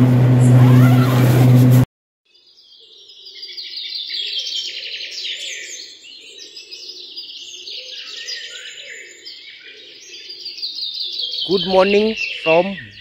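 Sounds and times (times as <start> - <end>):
small birds chirping and trilling: 2.3 - 13.0.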